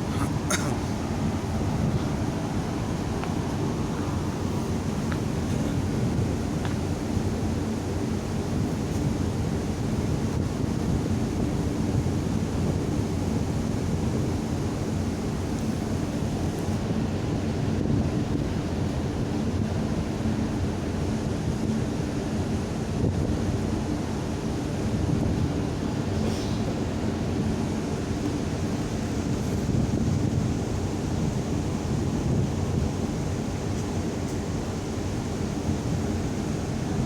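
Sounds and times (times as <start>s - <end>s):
sea noise: 0.0s - 37.0s
ship engine drone: 0.0s - 37.0s
wind on microphone: 0.0s - 37.0s.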